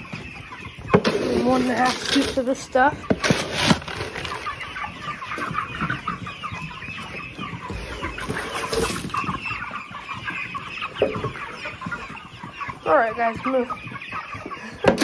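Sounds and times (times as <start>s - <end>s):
chicks peeping and clucking: 0.0s - 15.0s.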